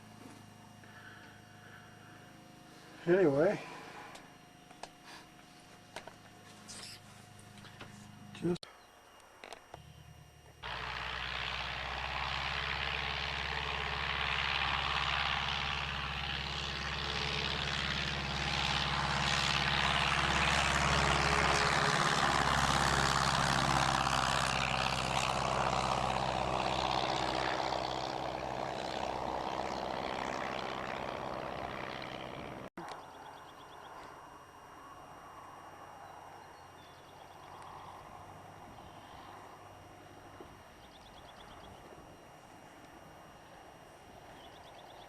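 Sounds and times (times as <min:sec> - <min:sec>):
light plane engine and propeller: 0:00.0 - 0:45.0.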